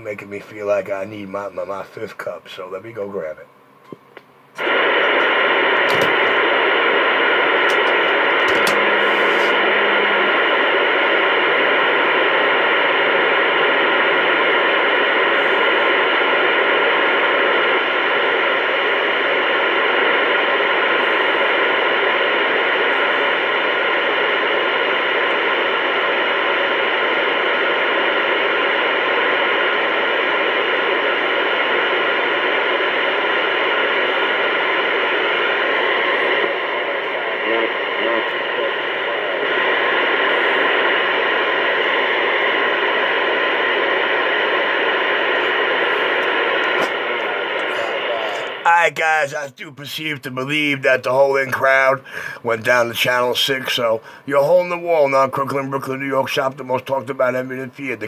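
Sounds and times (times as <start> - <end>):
static hiss: 0.0 - 58.0.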